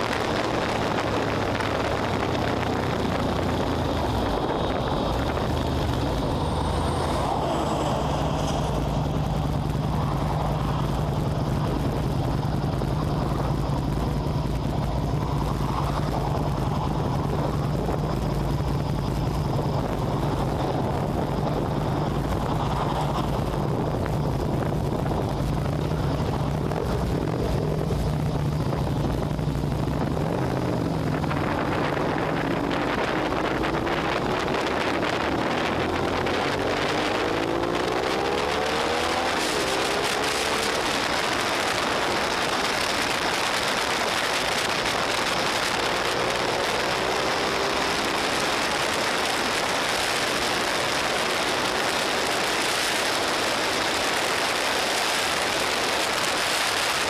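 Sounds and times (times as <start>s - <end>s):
motorcycle engine idling and revving: 0.0s - 57.0s
wind noise on microphone: 0.0s - 57.0s.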